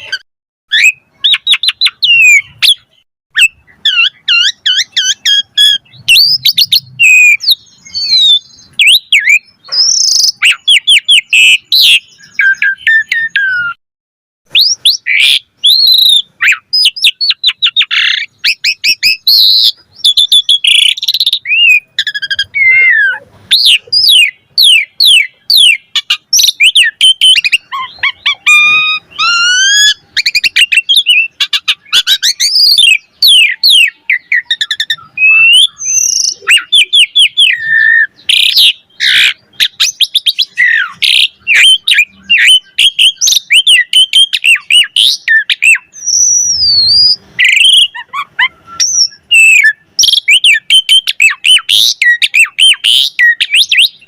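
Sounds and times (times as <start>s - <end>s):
starling singing: 0.0s - 13.8s, 14.5s - 54.0s.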